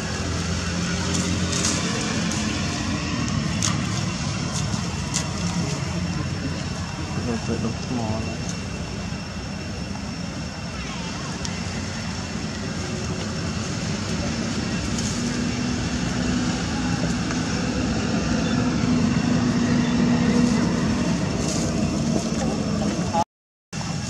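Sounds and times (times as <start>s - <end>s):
engine drone: 0.0s - 23.2s, 23.8s - 24.0s.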